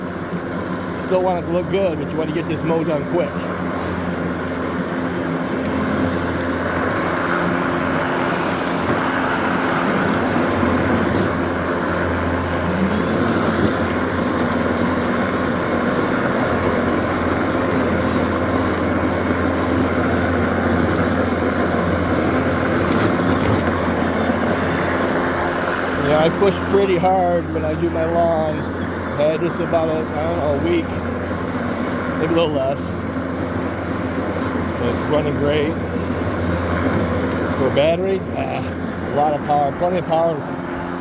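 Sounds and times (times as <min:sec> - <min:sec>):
electric lawn mower whirring: 0:00.0 - 0:41.0.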